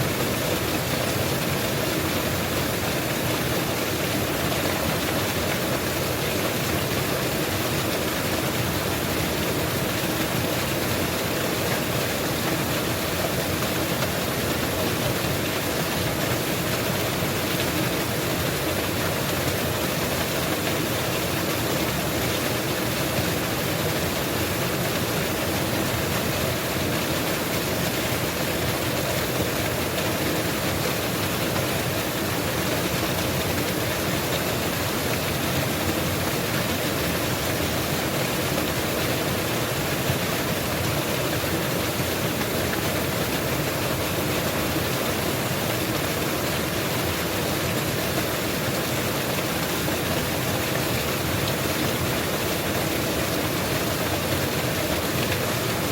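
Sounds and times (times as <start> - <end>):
waterfall: 0.0 - 55.9.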